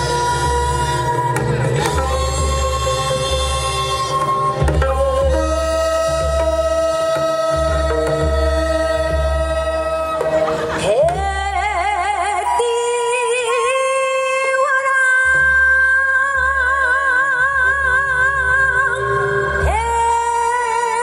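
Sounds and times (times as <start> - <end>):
woman singing with vibrato: 0.0 - 21.0.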